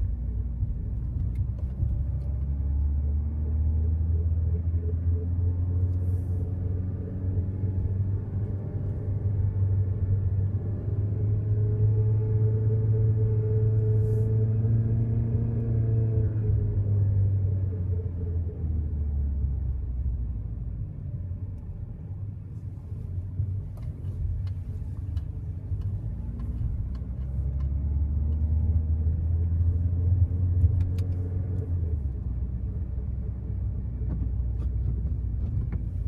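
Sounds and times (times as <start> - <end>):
car engine droning rumble: 0.0 - 36.0.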